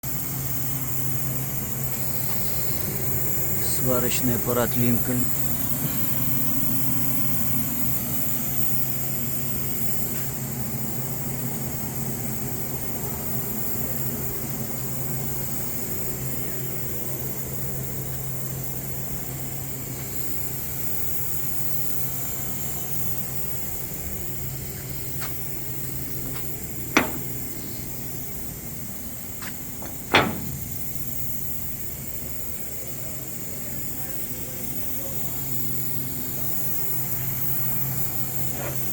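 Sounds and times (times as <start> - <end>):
welding machine humming and hissing: 0.1 - 38.9.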